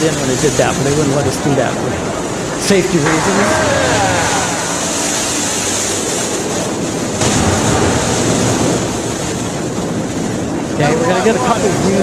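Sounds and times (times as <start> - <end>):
rushing churning water: 0.0 - 12.0.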